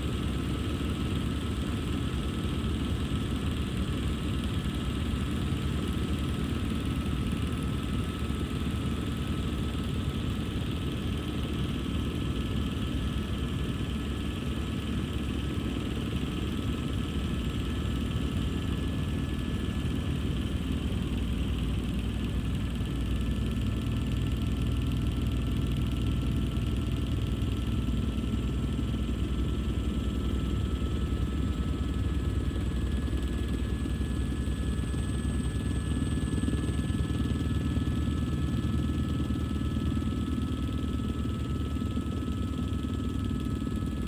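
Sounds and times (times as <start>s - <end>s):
helicopter engine and rotor: 0.0s - 44.0s.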